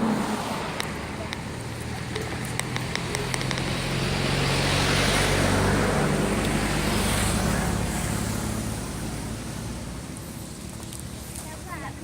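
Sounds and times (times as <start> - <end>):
vehicle driving past: 0.0 - 10.7.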